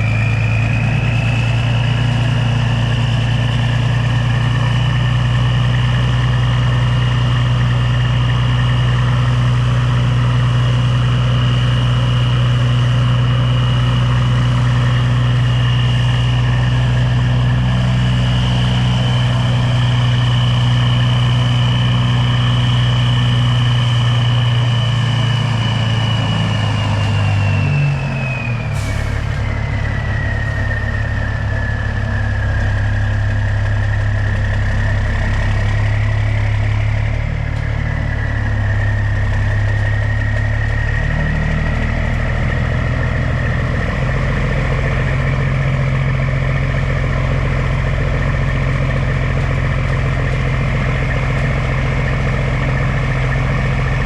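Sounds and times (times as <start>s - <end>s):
heavy diesel engine running: 0.0s - 54.0s
high engine whine: 0.0s - 54.0s.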